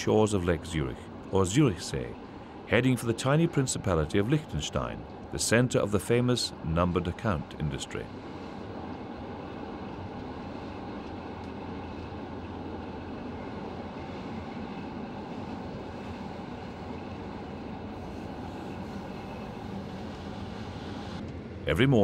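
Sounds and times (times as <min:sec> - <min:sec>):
train carriage running noise: 0:00.0 - 0:22.0.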